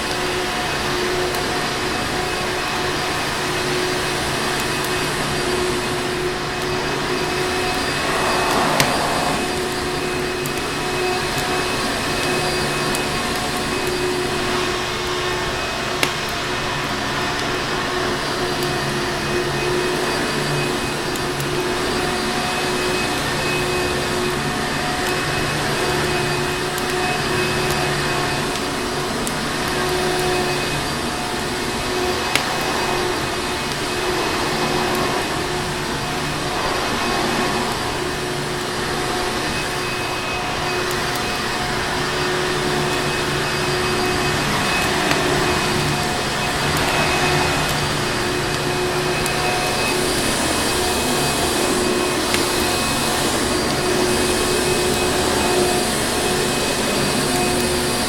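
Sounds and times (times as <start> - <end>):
vacuum cleaner motor running: 0.0 - 58.0.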